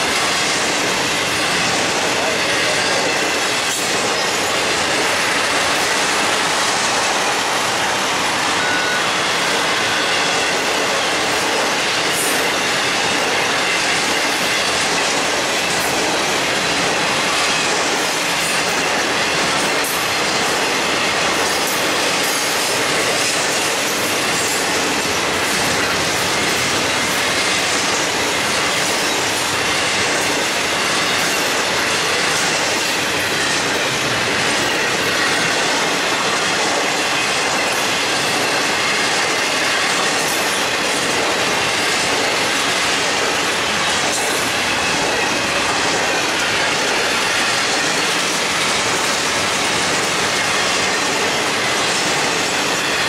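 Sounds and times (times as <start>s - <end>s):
train wheels rolling on rail: 0.0s - 53.0s.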